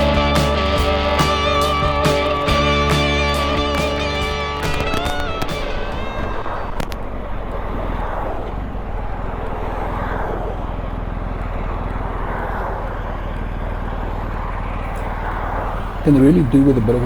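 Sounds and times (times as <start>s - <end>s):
motorcycle engine drone: 0.0s - 17.0s.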